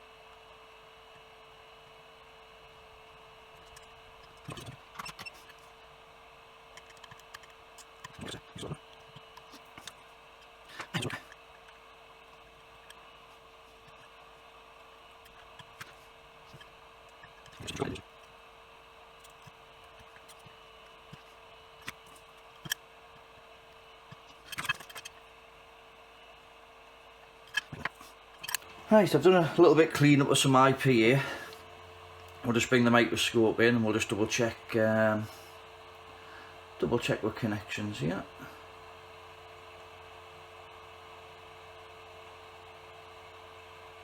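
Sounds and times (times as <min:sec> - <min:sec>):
steady hum: 0:00.0 - 0:44.0.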